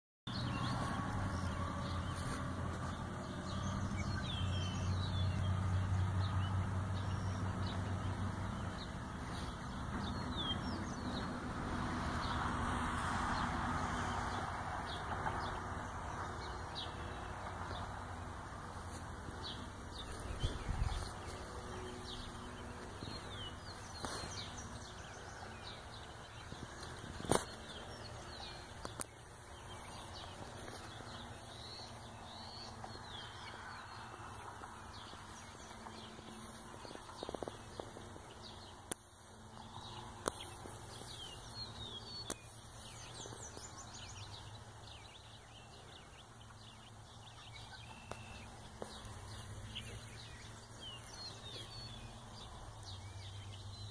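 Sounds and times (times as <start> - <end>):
small birds chirping: 0.3 - 12.6, 13.4 - 53.9.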